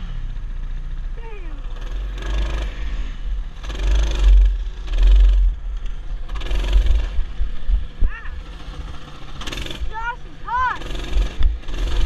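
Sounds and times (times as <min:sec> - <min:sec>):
heavy low rumble: 0:00.0 - 0:12.0
mini bike engine revving: 0:01.1 - 0:12.0.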